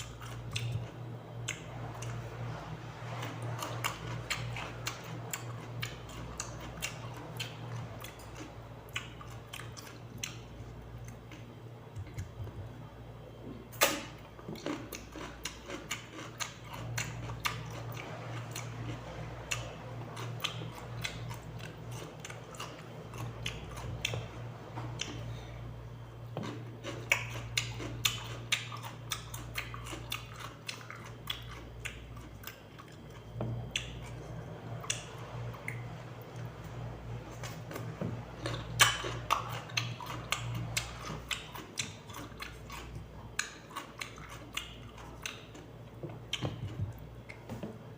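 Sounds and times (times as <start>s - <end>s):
person chewing cucumber: 0.0s - 47.9s
steady low hum: 0.0s - 47.9s.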